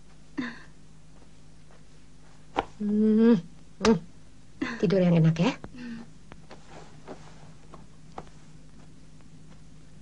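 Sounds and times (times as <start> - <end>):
faint film soundtrack hum: 0.0 - 10.0.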